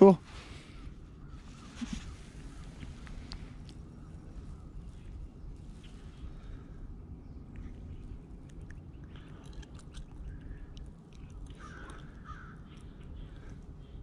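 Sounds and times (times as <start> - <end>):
wind rumble on microphone: 0.4 - 14.0.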